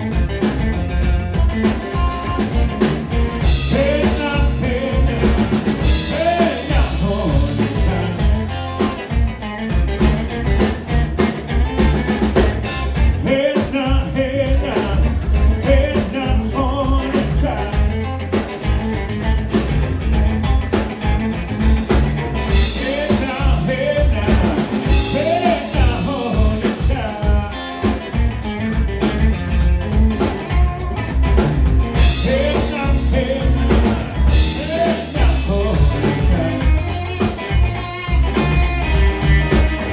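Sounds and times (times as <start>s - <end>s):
drums: 0.0s - 39.9s
guitar: 0.0s - 39.9s
live blues band playing: 0.0s - 39.9s.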